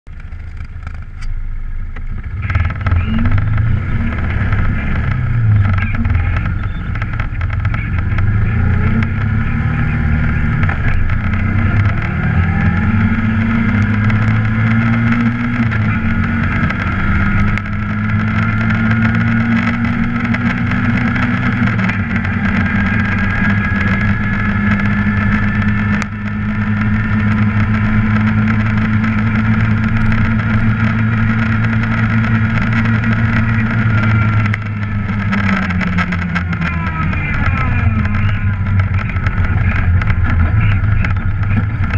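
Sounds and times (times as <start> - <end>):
atv engine running: 0.1 - 41.9.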